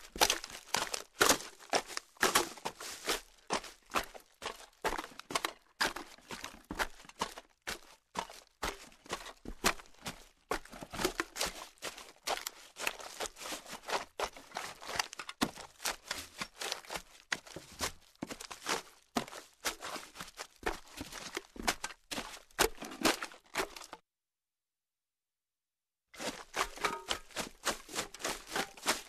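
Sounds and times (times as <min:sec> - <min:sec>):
footsteps crunching through garbage: 0:00.0 - 0:24.0, 0:26.1 - 0:29.0.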